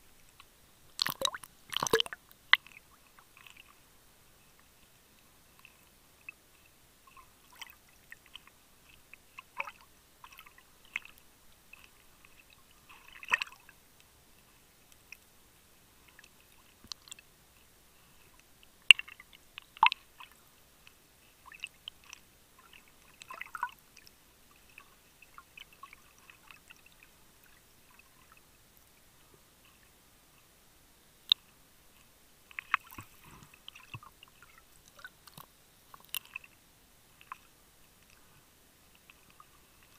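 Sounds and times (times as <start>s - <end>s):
underwater crackles and clicks: 0.0s - 15.4s, 16.0s - 30.5s, 31.2s - 39.9s.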